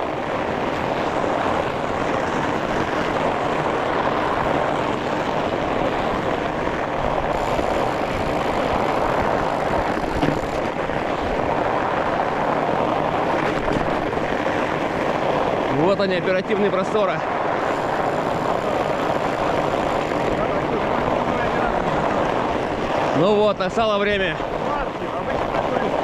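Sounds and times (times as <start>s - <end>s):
bike tyres rolling: 0.0s - 26.0s
wind rushing over microphone: 0.0s - 26.0s.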